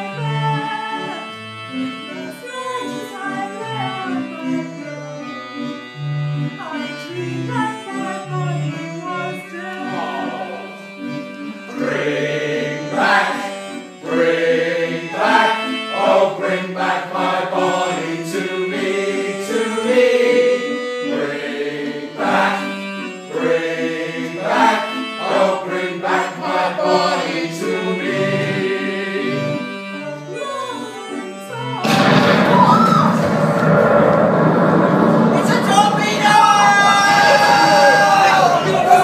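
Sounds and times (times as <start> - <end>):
accordion playing slow tune: 0.0 - 31.9.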